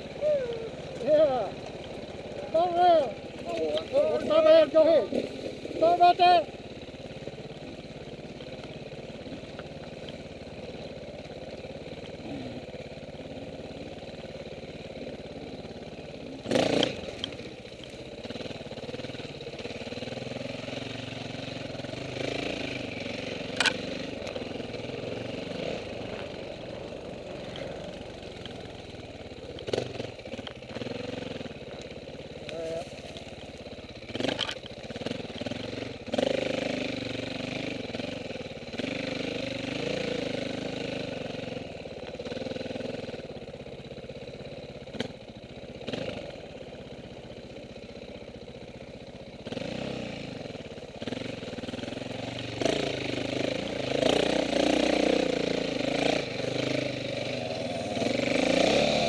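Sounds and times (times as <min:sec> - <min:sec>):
dirt bike engine revving: 0:00.0 - 0:47.7, 0:49.4 - 0:59.0.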